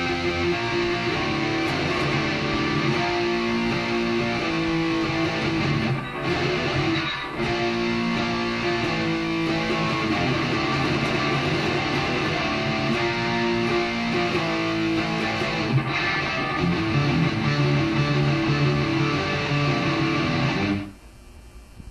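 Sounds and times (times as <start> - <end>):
electric guitar chords and notes: 0.0 - 21.0.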